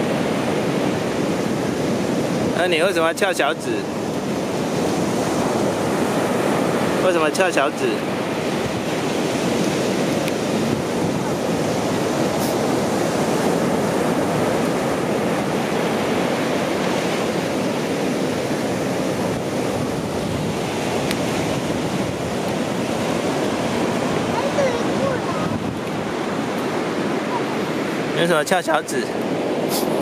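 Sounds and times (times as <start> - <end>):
ocean surf breaking: 0.0 - 30.0.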